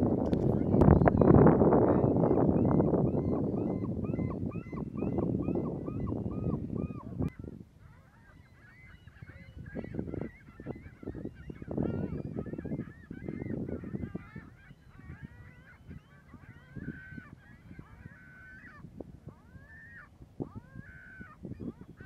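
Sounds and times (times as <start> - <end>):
gulls calling: 0.0 - 22.0.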